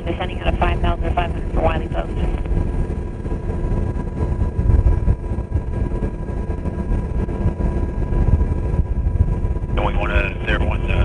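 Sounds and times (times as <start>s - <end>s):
faint whining tones: 0.0s - 11.0s
helicopter engines and rotor: 0.0s - 11.0s.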